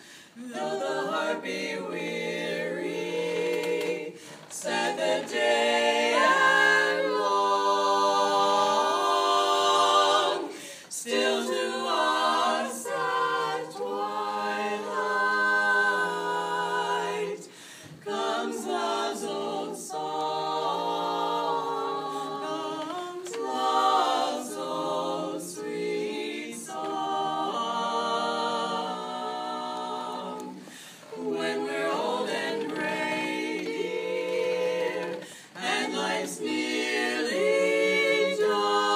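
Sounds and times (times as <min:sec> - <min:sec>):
women singing a cappella: 0:00.0 - 0:38.9.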